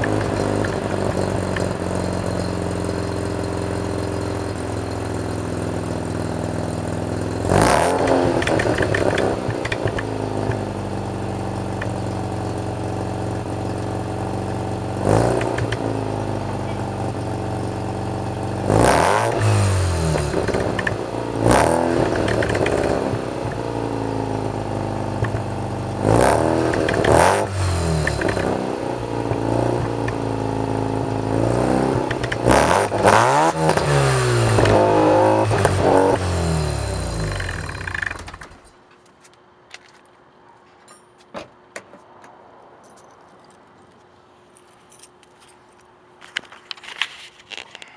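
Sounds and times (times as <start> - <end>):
rotary engine idling and revving: 0.0 - 38.7.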